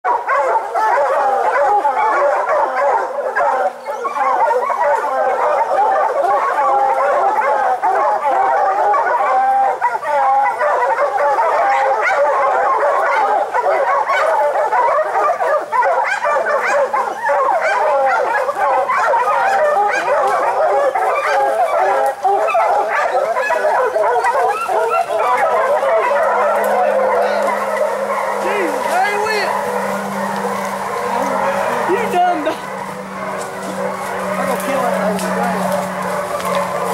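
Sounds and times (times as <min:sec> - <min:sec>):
hounds baying and barking: 0:00.0 - 0:36.9.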